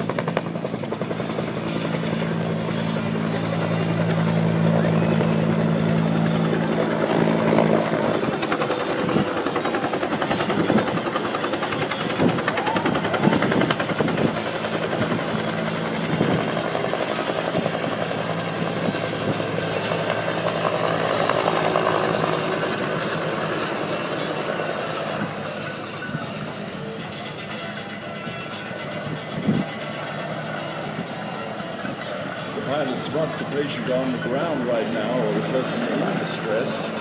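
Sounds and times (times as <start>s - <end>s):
helicopter engine drone: 0.0s - 37.0s
helicopter rotor beating: 0.0s - 37.0s.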